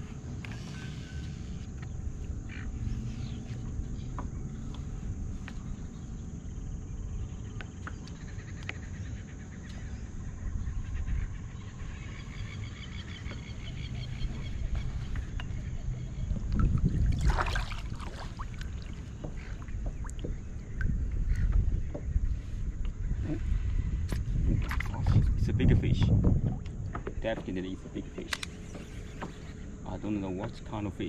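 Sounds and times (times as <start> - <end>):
wind and water rumble: 0.0 - 31.0.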